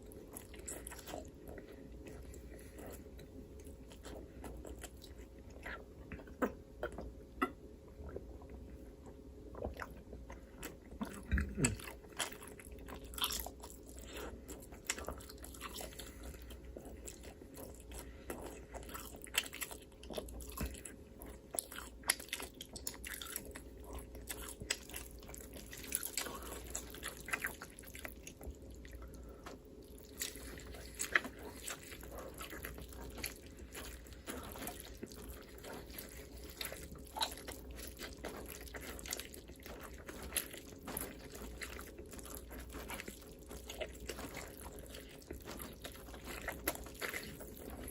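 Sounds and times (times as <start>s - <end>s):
chewing with crunching clicks: 0.0s - 47.9s
faint steady hum: 0.0s - 47.9s.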